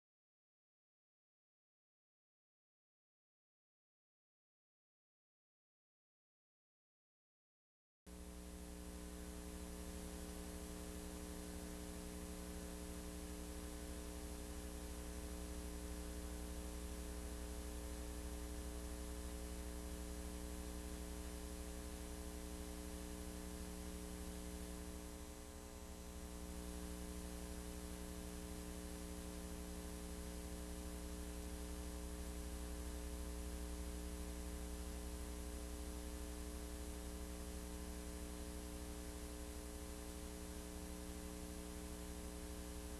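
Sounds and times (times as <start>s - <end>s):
electrical mains hum: 8.1s - 42.9s
tape hiss: 8.1s - 42.9s.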